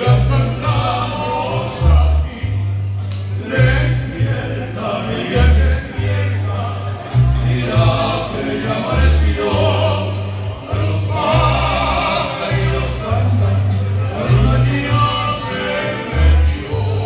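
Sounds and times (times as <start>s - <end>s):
deep bass line: 0.0s - 17.0s
men singing: 0.0s - 17.0s.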